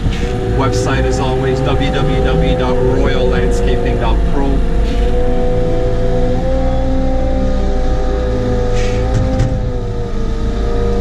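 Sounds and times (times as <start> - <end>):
wheel loader diesel engine: 0.0 - 11.0.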